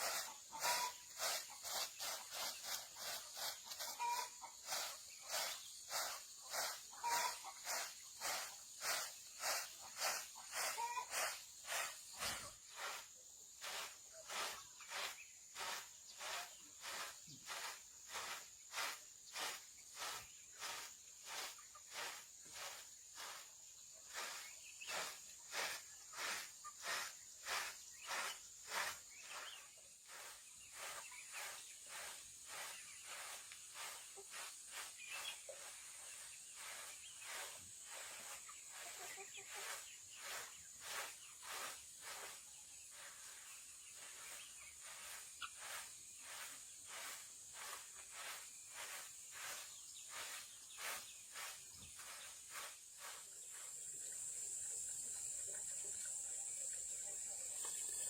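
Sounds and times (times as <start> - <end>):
rhythmic scraping strokes: 0.0 - 54.0.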